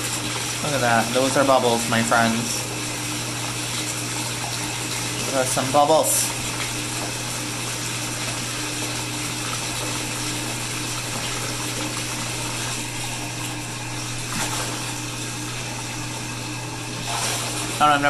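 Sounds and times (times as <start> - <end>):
bath tap running into tub: 0.0 - 18.0.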